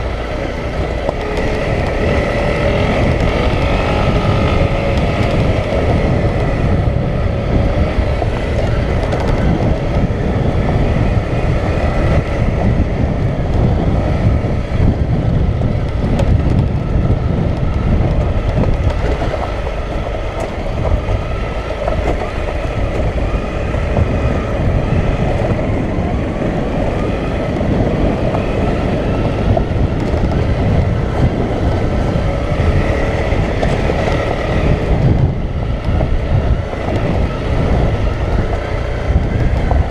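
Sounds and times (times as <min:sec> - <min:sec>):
motorcycle engine running: 0:00.0 - 0:39.9
motorcycle rattling over rocks: 0:00.0 - 0:39.9.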